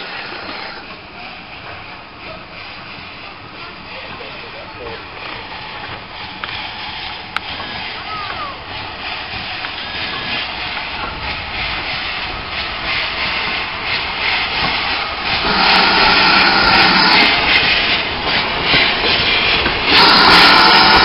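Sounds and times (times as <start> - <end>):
hiss of steam: 0.0 - 21.0
steam locomotive passing: 0.0 - 21.0.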